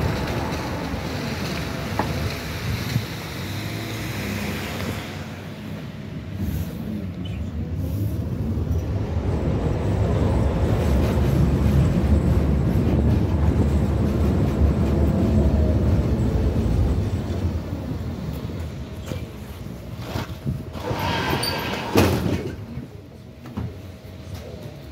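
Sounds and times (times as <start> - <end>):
tram wheel and track rumble: 0.0 - 24.9.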